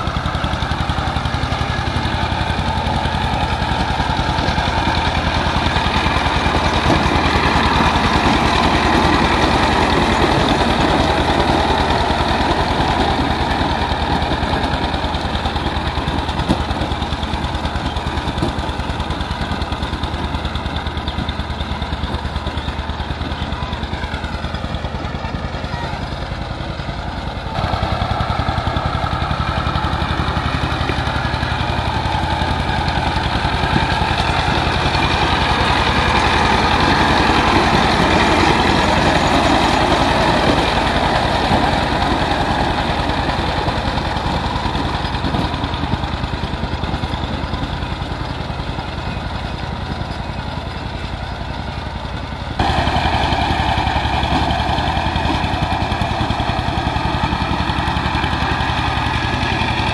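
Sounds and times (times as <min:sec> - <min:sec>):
rotary tiller churning soil: 0:00.0 - 0:26.0, 0:26.6 - 0:59.9
diesel engine running: 0:00.0 - 0:59.9.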